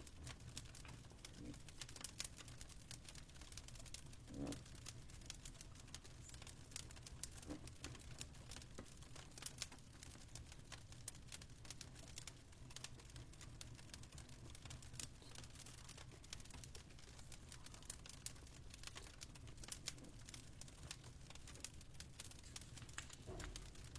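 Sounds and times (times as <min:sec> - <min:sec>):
fireplace crackling: 0:00.0 - 0:23.9.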